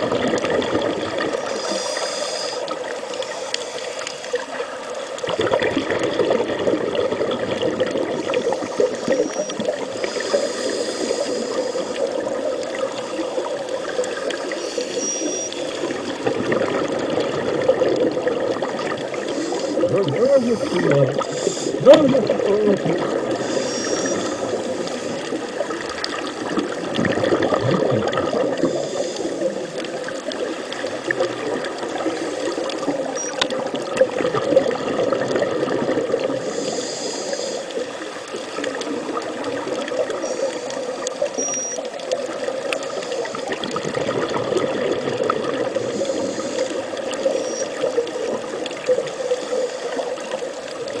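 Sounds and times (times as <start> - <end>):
continuous water noise: 0.0 - 51.0.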